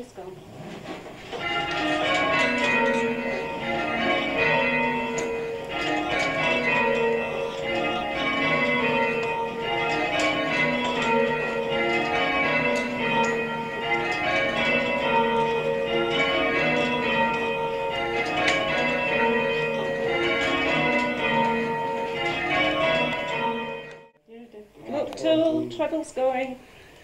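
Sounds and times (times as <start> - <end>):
church bells ringing: 1.2 - 24.2.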